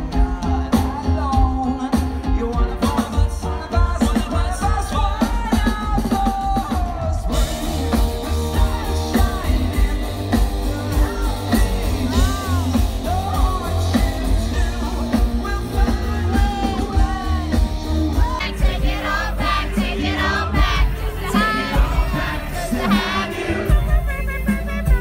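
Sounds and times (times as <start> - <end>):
man singing: 0.0 - 24.2
fans singing along: 0.0 - 24.6
live rock band: 0.0 - 25.0.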